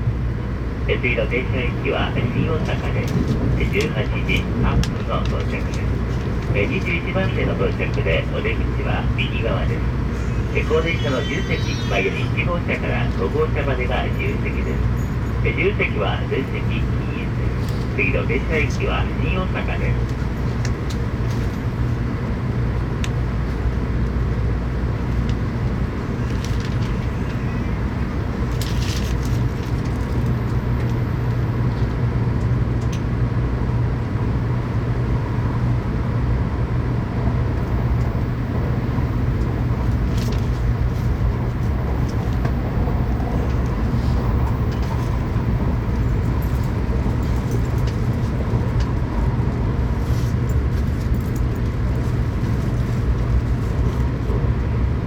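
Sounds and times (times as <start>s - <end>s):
train low rumble: 0.0s - 55.0s.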